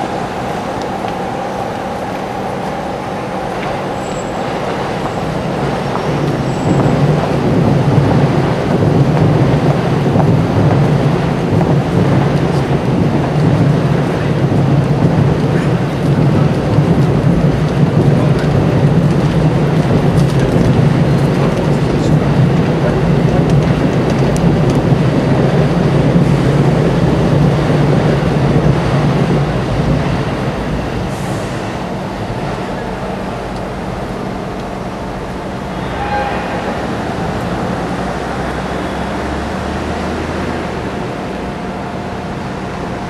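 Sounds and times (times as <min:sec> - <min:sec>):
low rumble of city noise: 0:00.0 - 0:43.0.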